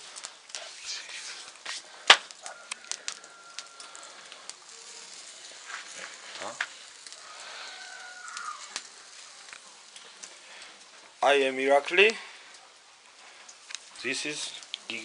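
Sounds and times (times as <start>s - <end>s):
embers crackling and popping: 0.0s - 15.0s
faint hiss: 0.0s - 15.0s.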